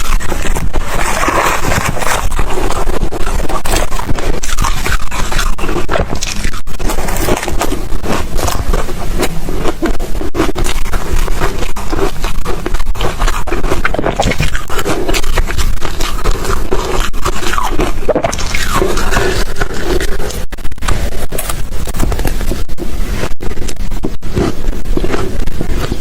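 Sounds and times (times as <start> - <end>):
ice crunching being chewed: 0.0 - 26.0.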